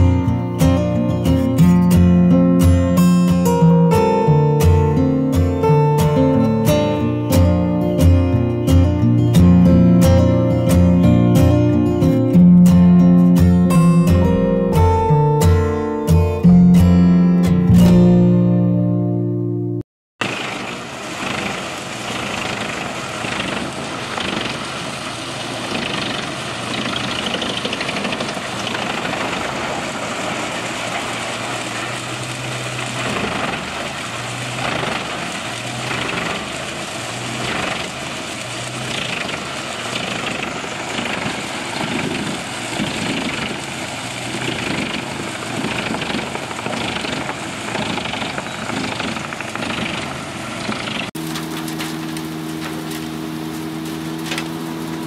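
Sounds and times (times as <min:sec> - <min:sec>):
wood chipper engine drone: 0:00.0 - 0:19.2, 0:20.2 - 0:55.0.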